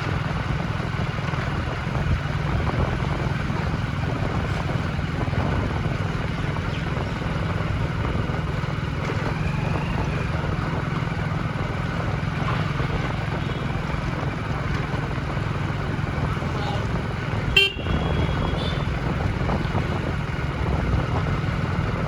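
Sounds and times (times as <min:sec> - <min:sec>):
vehicle rumbling in traffic: 0:00.0 - 0:22.0.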